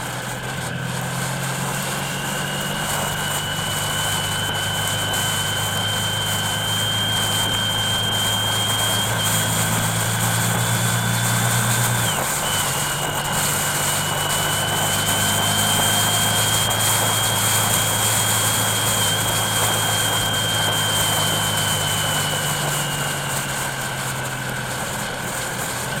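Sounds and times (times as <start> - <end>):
road hiss: 0.0 - 26.0
thin high whine: 0.0 - 26.0
vehicle engine running: 0.0 - 26.0.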